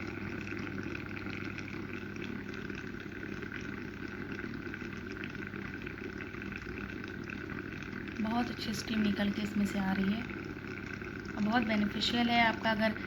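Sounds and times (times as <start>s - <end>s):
low steady hum: 0.0s - 13.0s
water boiling with bubbling hiss: 0.0s - 13.0s.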